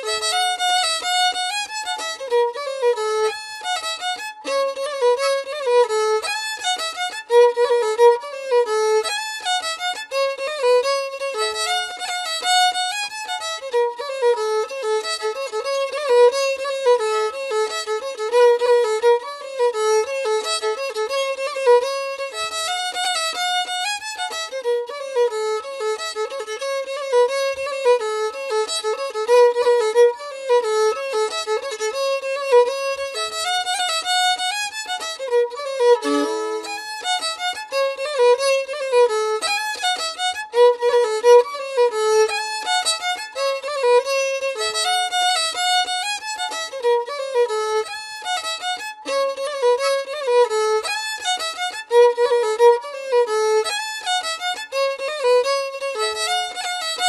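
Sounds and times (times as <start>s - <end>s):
instrumental music melody: 0.0s - 57.0s.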